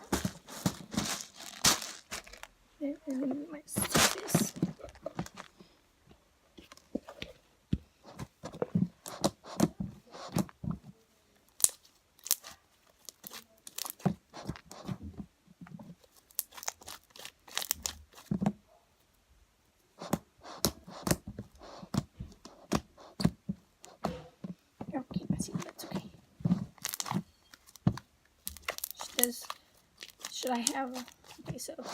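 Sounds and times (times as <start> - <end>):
crinkling and crackling materials: 0.0 - 18.8, 19.9 - 31.9.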